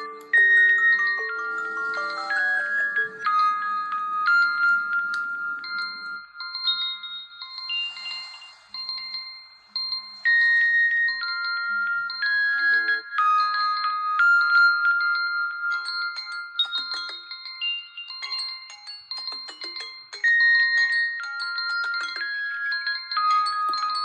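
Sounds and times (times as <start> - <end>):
smartphone alarm melody: 0.0 - 24.0.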